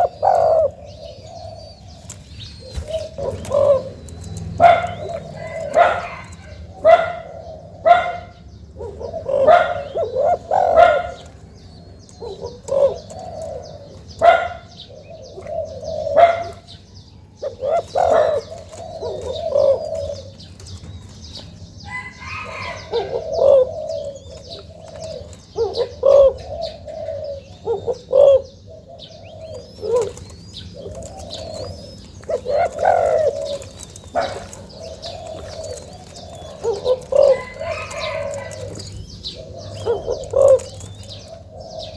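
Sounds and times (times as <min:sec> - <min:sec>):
doves cooing: 0:00.0 - 0:41.9.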